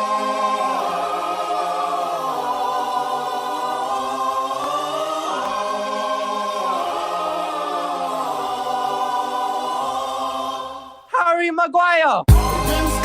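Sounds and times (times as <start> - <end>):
choir singing held chords: 0.0 - 11.1, 12.3 - 13.0.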